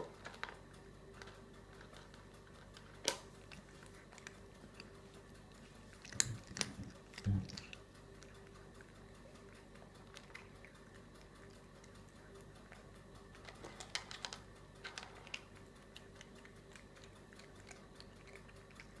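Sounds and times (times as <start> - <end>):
cat crunching food: 0.0 - 19.0
faint steady hum: 0.0 - 19.0.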